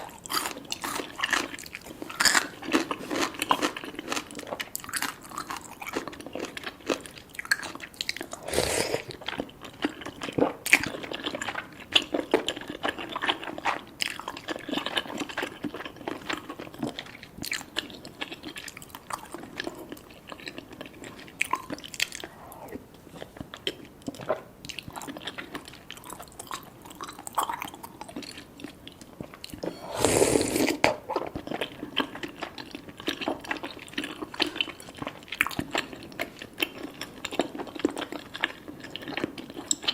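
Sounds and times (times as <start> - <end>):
chewing with mouth clicks: 0.0 - 29.8, 30.6 - 39.9.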